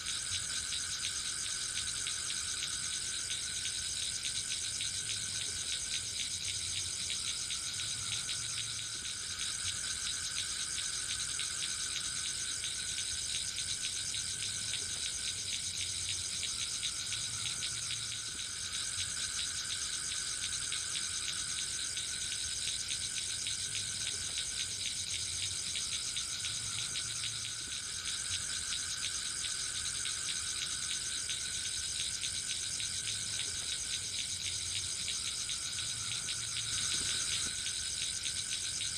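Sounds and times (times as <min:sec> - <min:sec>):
crickets trilling: 0:00.0 - 0:38.9
low-pitched insect trill: 0:00.0 - 0:38.9.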